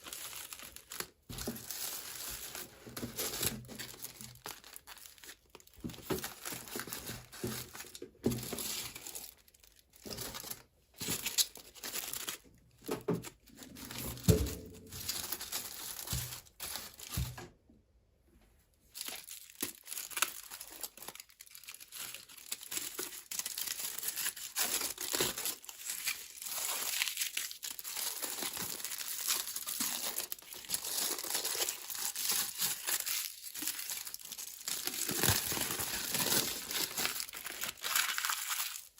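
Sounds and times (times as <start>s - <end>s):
packaging crinkling and tearing: 0.0s - 17.4s, 18.9s - 38.9s.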